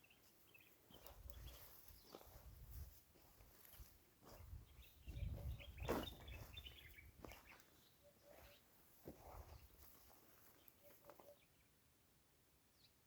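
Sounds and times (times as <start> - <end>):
birds chirping faintly: 0.0 - 11.9.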